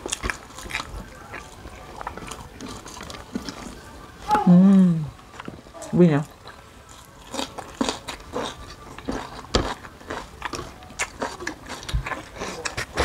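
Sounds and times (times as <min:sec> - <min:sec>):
chewing crisp vegetable: 0:00.0 - 0:04.5, 0:05.3 - 0:13.0.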